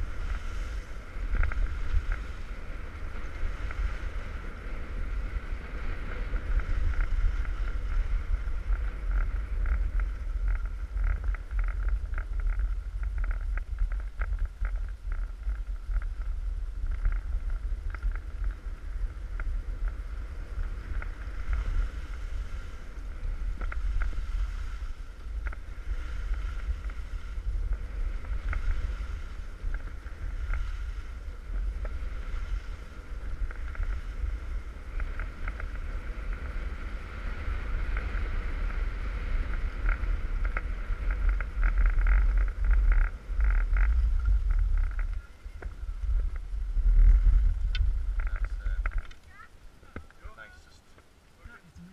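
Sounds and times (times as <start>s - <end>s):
skis scraping on packed snow: 0.0s - 51.9s
wind buffeting microphone: 0.0s - 51.9s.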